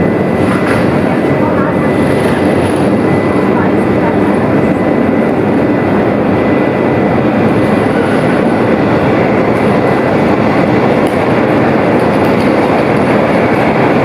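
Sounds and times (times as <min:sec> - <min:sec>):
train running noise: 0:00.0 - 0:14.0.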